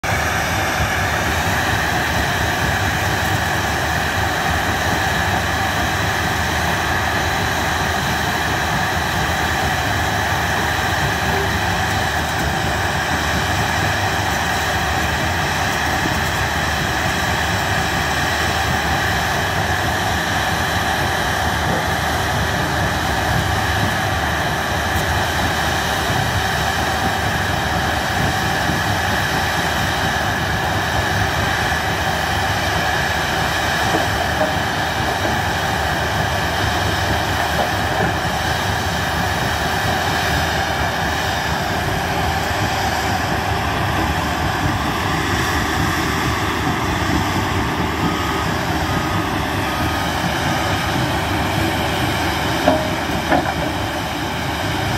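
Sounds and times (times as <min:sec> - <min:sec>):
engine drone: 0:00.0 - 0:54.9.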